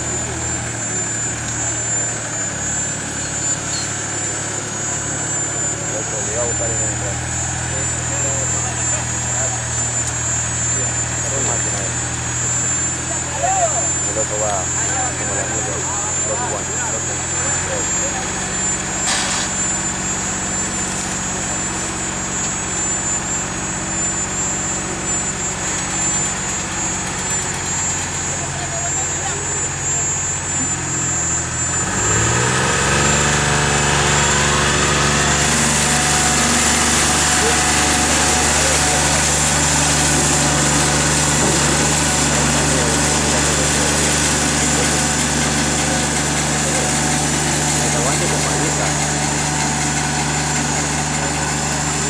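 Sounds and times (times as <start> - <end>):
thin high whine: 0.0 - 52.0
tractor engine humming: 0.0 - 52.0.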